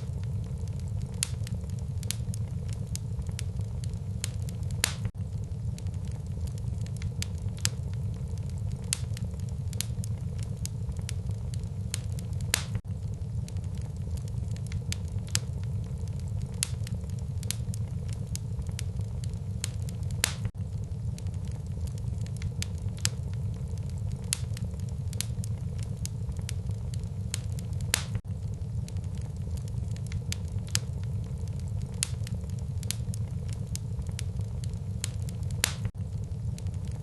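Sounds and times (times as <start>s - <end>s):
fire crackles and pops: 0.0s - 37.0s
low rumble of flames: 0.0s - 37.0s.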